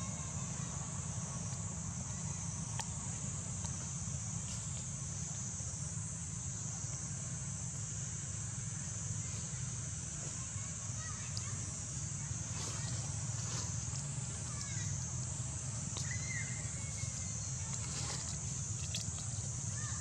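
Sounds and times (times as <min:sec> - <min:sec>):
insect chorus drone: 0:00.0 - 0:20.0
low steady rumble: 0:00.0 - 0:20.0.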